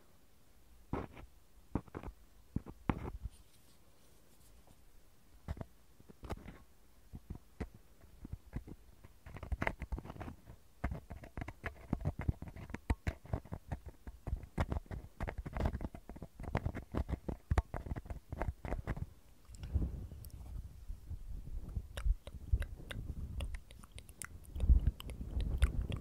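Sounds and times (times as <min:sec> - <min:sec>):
ear picks scratching on microphone: 0:00.9 - 0:04.8, 0:07.2 - 0:20.7, 0:21.4 - 0:26.0
soft fuzzy rustle: 0:01.0 - 0:06.7, 0:07.8 - 0:26.0.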